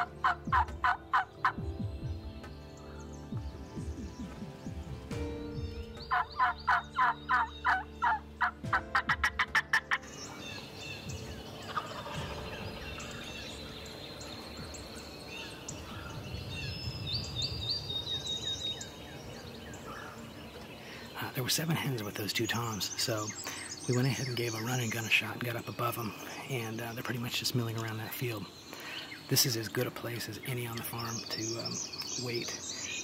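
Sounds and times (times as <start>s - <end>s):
wild turkeys calling: 0.0s - 16.8s, 18.0s - 33.0s
faint birdsong: 0.0s - 33.0s.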